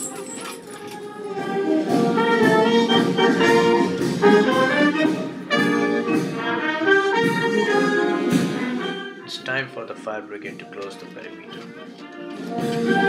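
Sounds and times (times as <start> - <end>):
brass band playing: 1.3 - 13.0.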